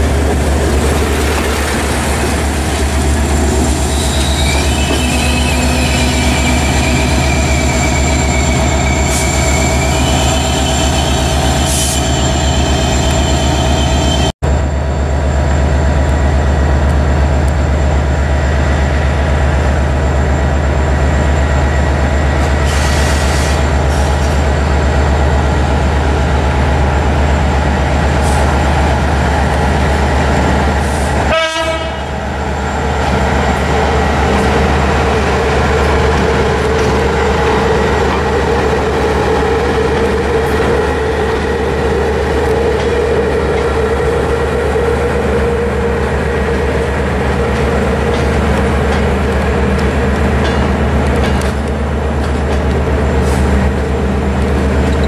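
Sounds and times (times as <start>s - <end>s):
diesel train whining: 0.0s - 55.0s
electric locomotive humming: 0.0s - 55.0s.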